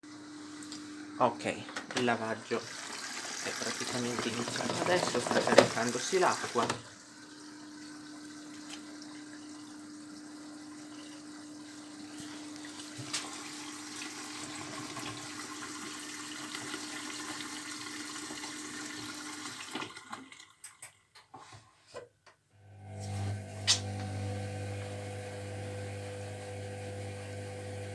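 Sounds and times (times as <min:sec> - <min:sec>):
washing machine filling with water: 0:00.1 - 0:21.1, 0:22.8 - 0:27.9.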